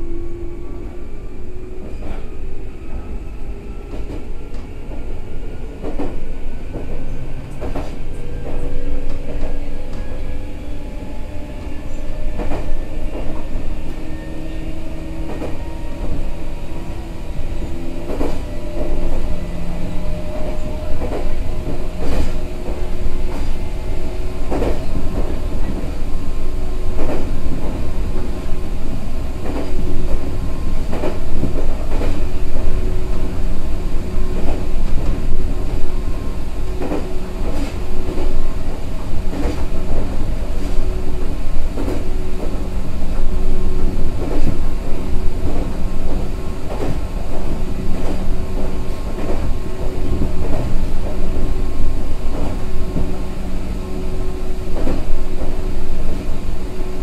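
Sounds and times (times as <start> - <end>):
train motor whine: 0.0 - 57.0
wheel and track rumble: 5.7 - 57.0.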